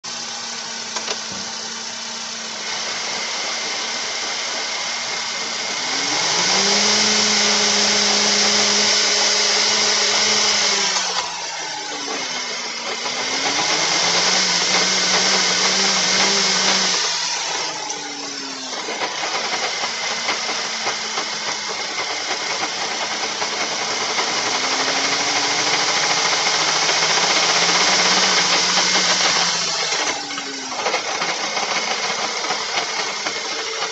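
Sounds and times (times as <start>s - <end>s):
car drivetrain whine: 0.2s - 33.9s.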